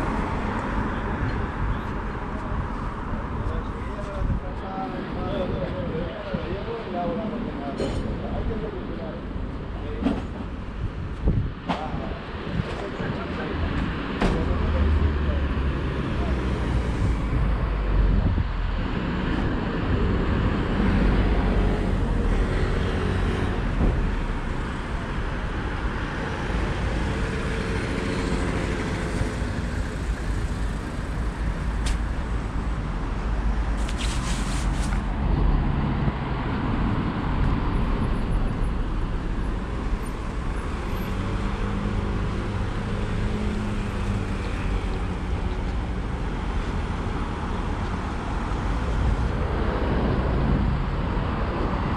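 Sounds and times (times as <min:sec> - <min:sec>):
road traffic passing: 0:00.0 - 0:51.9.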